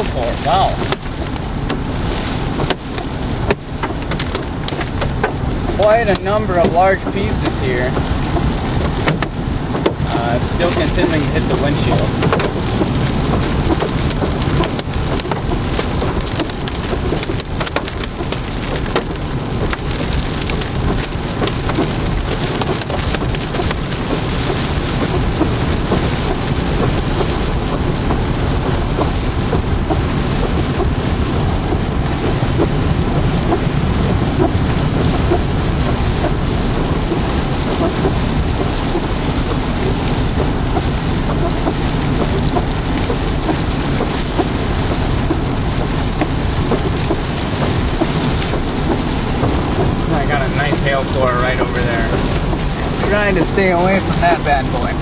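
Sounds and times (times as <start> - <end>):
heavy rain on a car: 0.0 - 55.0.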